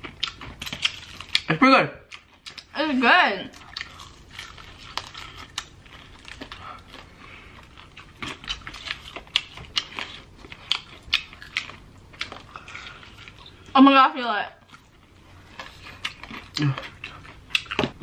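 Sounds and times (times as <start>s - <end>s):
biting and chewing food: 0.0s - 2.7s, 3.5s - 13.7s, 14.6s - 18.0s.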